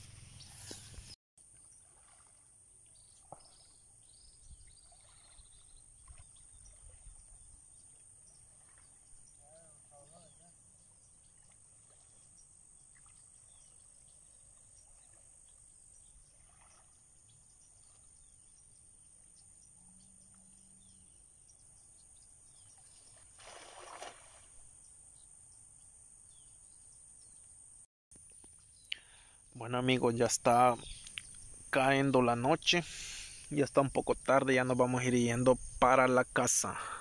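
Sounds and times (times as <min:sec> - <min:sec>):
faint chirps: 0:00.0 - 0:23.3, 0:28.2 - 0:35.7.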